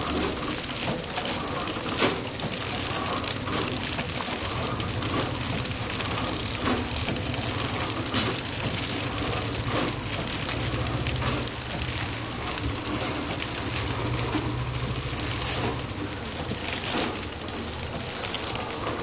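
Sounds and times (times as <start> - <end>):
machine clicks and rattles: 0.0 - 19.0
packing machine humming: 0.0 - 19.0.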